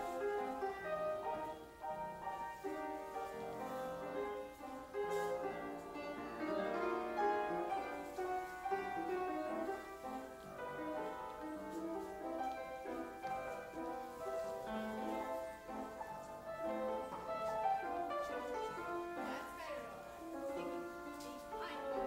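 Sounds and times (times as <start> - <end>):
slow classical piano: 0.0 - 22.0.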